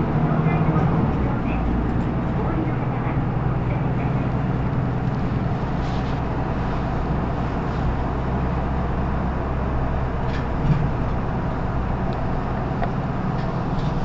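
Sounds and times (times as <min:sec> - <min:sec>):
bus diesel engine humming: 0:00.0 - 0:14.0.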